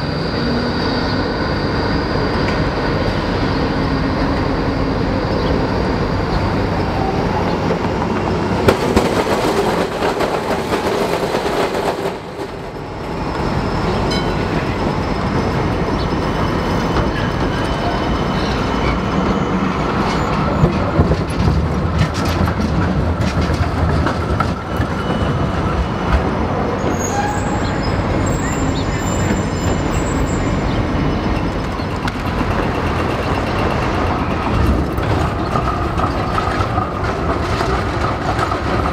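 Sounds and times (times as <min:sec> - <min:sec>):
street traffic rumble: 0:00.0 - 0:38.9
tram wheels clacking on rails: 0:00.0 - 0:38.9
trams rolling: 0:00.0 - 0:38.9.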